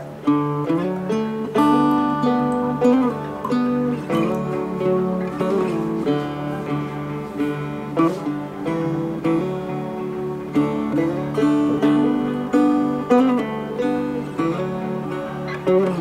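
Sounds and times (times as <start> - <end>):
acoustic guitar background music: 0.0 - 16.0.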